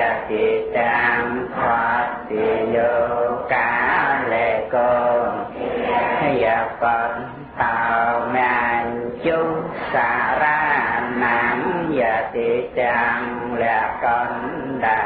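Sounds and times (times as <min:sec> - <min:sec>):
man chanting melodically: 0:00.0 - 0:05.5, 0:06.1 - 0:15.0.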